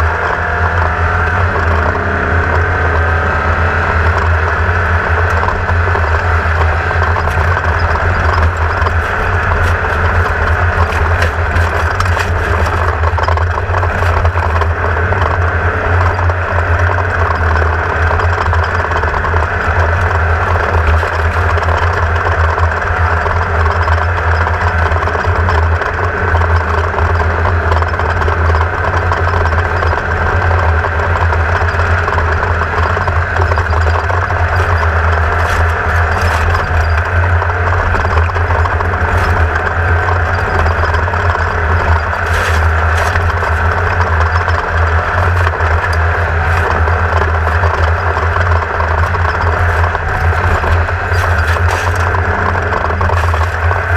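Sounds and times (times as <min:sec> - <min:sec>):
race buggy engine droning: 0:00.0 - 0:53.9.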